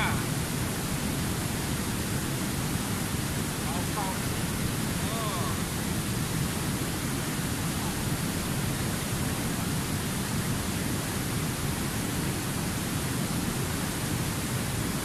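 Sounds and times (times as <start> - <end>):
river rapids rushing over rock: 0.0 - 15.0.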